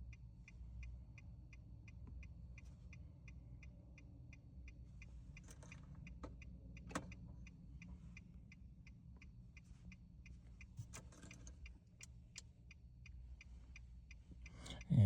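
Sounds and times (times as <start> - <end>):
faint steady ticking: 0.0 - 15.0.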